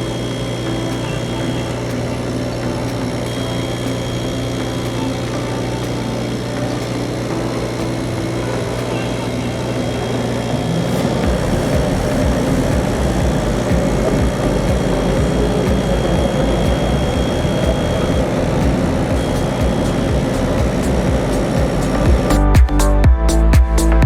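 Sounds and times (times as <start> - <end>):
machine motor hum: 0.0 - 23.0
high machine whine: 0.0 - 23.1.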